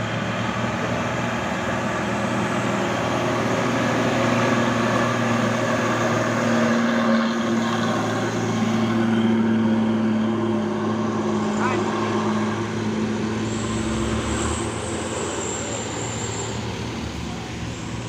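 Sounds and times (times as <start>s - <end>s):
diesel truck engine under load: 0.0s - 18.0s.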